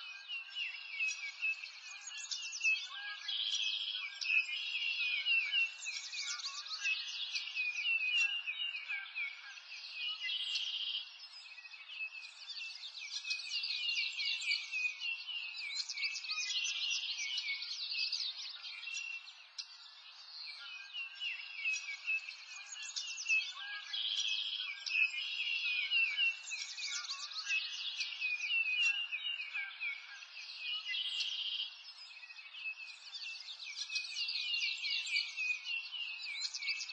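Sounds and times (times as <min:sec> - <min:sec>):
chorus of small birds chirping: 0:00.0 - 0:36.9.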